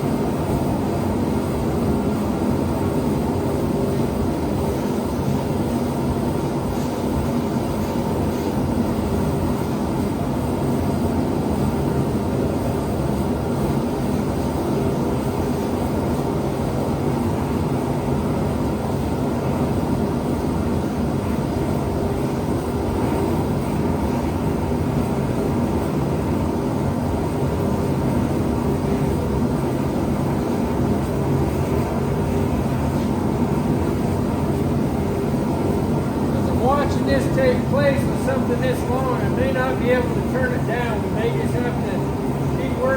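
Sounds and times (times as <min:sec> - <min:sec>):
gas forge burners rushing: 0:00.0 - 0:42.9.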